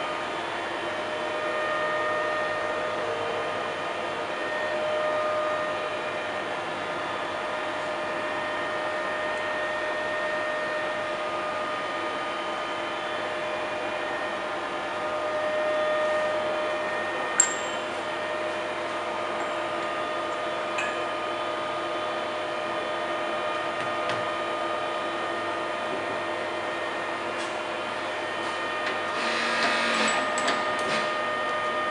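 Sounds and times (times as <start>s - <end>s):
milling machine motor hum: 0.0s - 31.9s.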